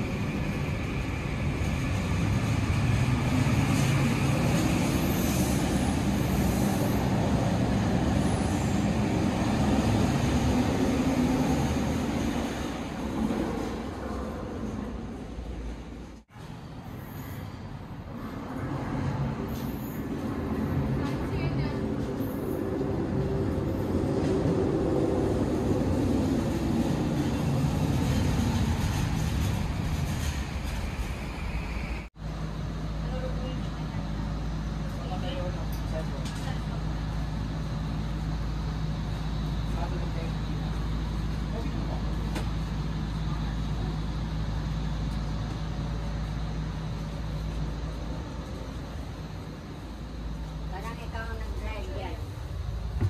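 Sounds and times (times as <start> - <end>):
train rumbling on track: 0.0 - 53.0.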